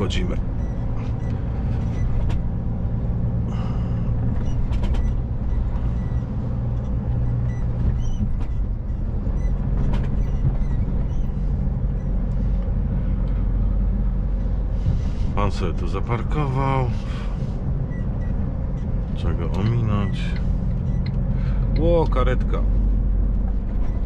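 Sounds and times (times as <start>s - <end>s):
diesel truck engine running: 0.0s - 24.0s
road rumble: 0.0s - 24.0s.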